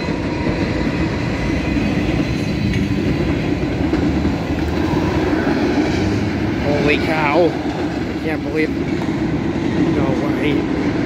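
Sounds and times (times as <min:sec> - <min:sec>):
freight train rumbling past: 0:00.0 - 0:11.0
train wheels rolling on rails: 0:00.0 - 0:11.0.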